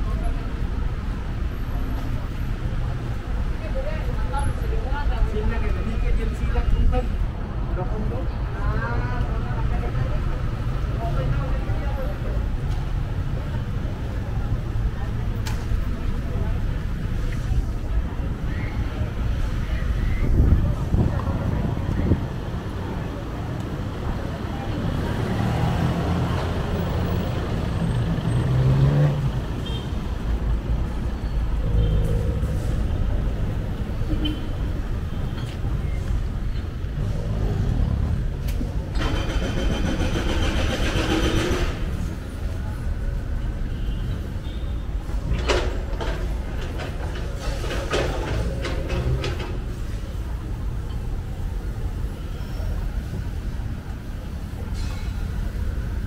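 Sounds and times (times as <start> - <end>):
vehicles passing close by: 0.0 - 56.0.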